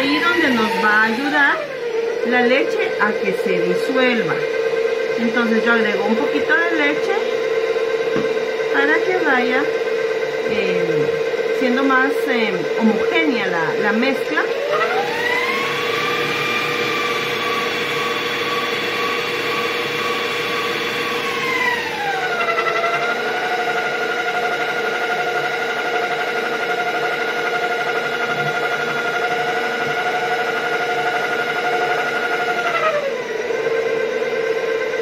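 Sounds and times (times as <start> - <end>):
stand mixer motor whining: 0.0 - 35.0.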